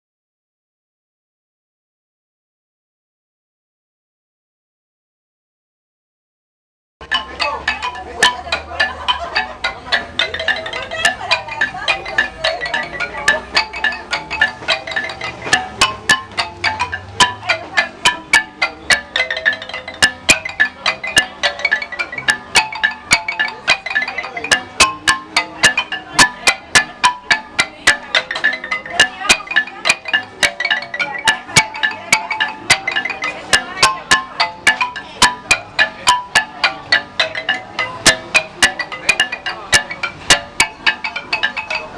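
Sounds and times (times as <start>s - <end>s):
marimba music: 7.0s - 41.9s.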